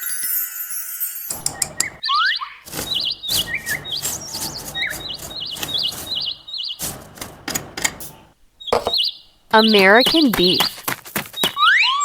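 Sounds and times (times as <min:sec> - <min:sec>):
small bird chirping: 0:01.3 - 0:12.0.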